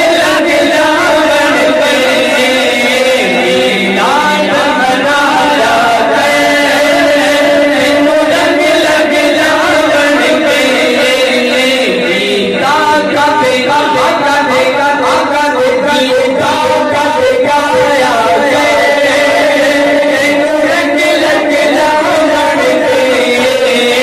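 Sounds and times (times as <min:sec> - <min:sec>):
person singing chant-like song: 0:00.0 - 0:24.0.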